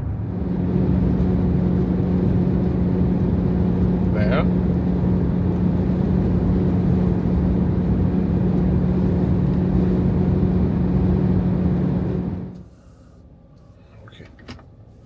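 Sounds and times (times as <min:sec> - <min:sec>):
low vibrating hum: 0:00.0 - 0:12.6
wind and road noise: 0:00.0 - 0:12.6.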